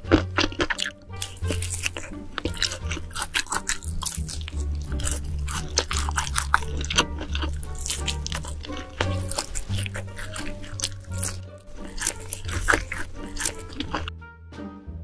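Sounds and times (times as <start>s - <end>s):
wet chewing: 0.0s - 14.1s
background music with bass line: 0.0s - 15.0s
mouth smacking clicks: 0.4s - 14.1s.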